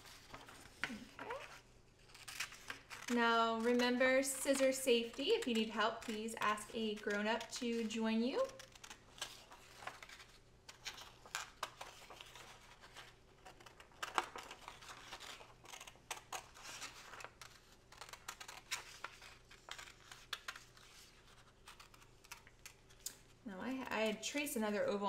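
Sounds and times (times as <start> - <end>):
paper rustling: 0.0 - 24.1
scissors snipping paper: 0.7 - 24.5.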